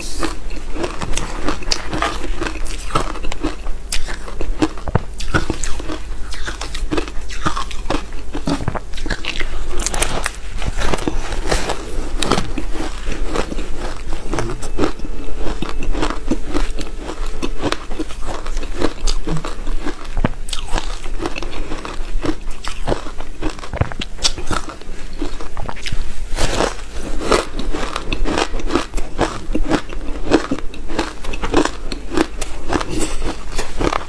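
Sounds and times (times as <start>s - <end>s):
chewing crunchy ice: 0.0s - 34.0s.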